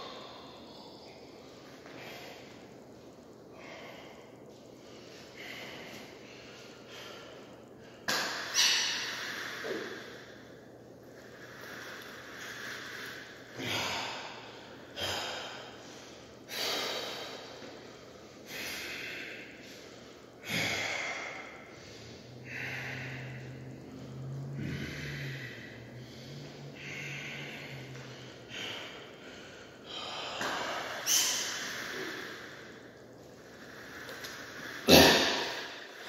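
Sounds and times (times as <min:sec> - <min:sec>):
low steady hum: 0:00.0 - 0:36.0
man breathing hard: 0:00.0 - 0:36.0.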